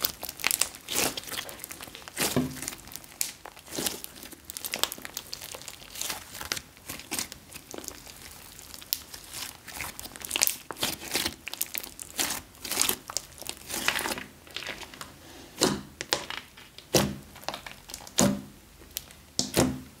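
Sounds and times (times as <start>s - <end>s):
slime popping: 0.0s - 15.0s, 15.6s - 19.8s
slime crackling when kneaded: 0.0s - 20.0s.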